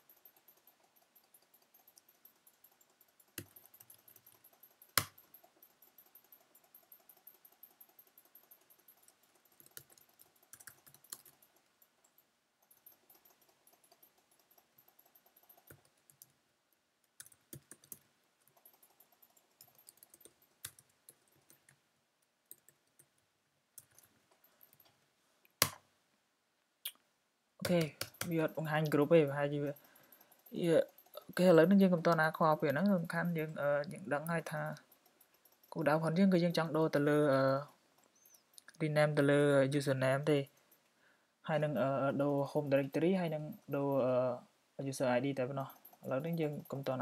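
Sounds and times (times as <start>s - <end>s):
keyboard typing: 0.0s - 25.8s, 27.6s - 40.9s, 41.6s - 44.2s, 45.2s - 47.0s.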